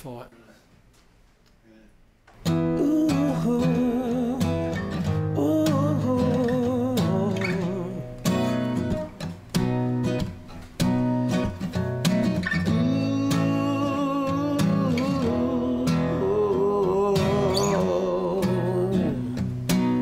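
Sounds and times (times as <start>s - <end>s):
fingerpicked acoustic guitar: 2.3s - 20.0s.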